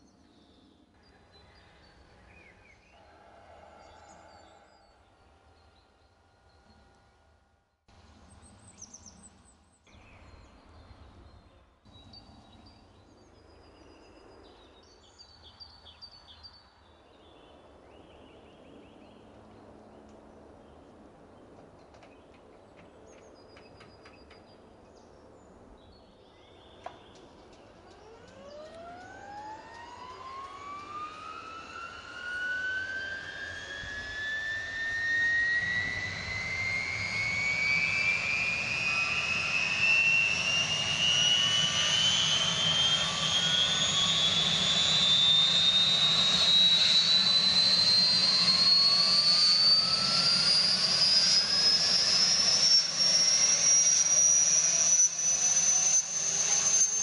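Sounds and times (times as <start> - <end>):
helicopter turbine engine whine: 0.0 - 57.0.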